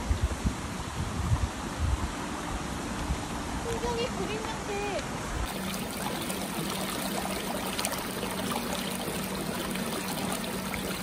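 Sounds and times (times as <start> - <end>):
running water rushing: 1.5 - 11.0.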